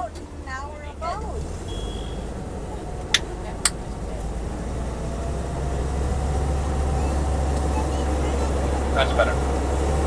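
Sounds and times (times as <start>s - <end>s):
boat engine drone: 0.0s - 10.0s.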